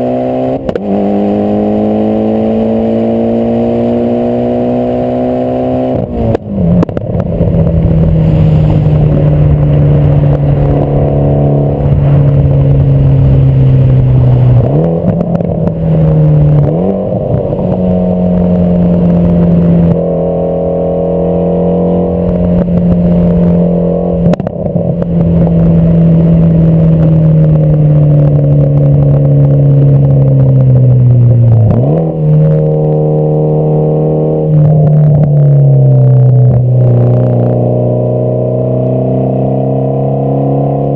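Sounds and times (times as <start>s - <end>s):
loud car engine running: 0.0s - 40.9s.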